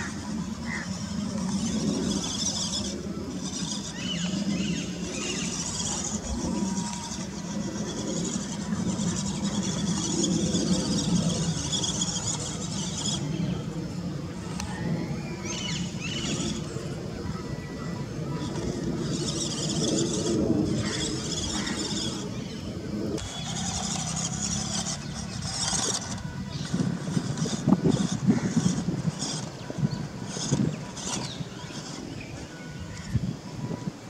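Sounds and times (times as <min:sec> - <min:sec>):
toy truck electric motor running: 0:00.0 - 0:34.0.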